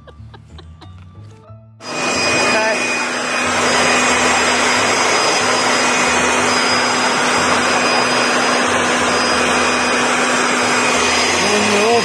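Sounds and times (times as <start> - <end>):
leaf blower running: 1.8 - 12.0.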